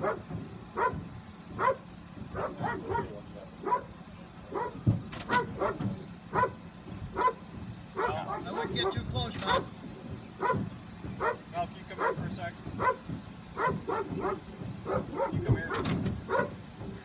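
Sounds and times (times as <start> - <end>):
dog barking: 0.0 - 7.4, 8.0 - 9.7, 10.4 - 16.6.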